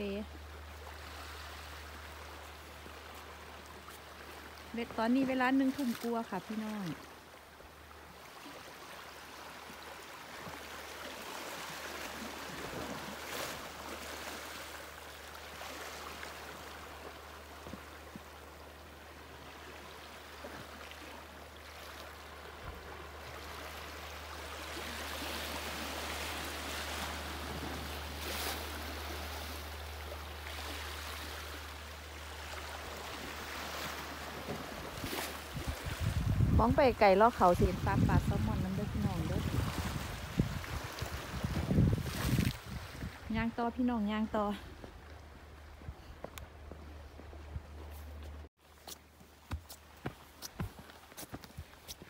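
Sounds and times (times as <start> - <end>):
waves lapping against rocks: 0.4 - 46.6.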